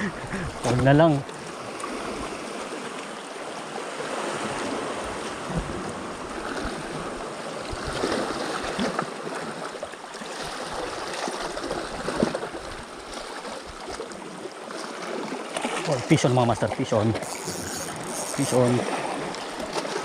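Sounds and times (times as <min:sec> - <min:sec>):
small waves washing on shore: 0:00.0 - 0:20.0.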